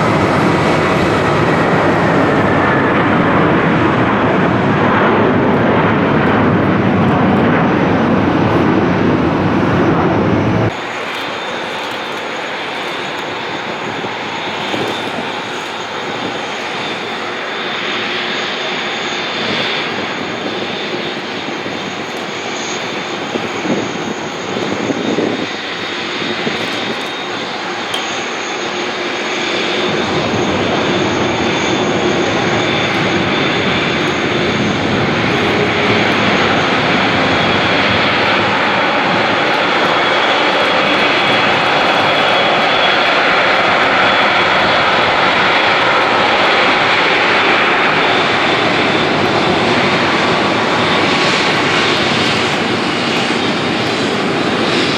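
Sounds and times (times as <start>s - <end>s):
jet engines rushing with whine: 0.0s - 54.9s.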